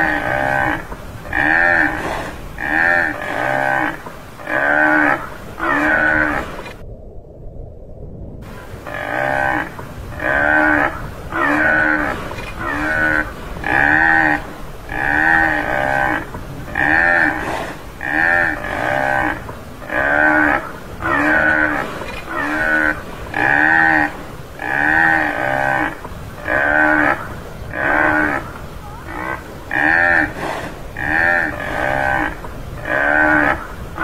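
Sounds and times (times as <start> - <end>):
buffalo moo-like calls: 0.0 - 6.6, 8.8 - 34.0.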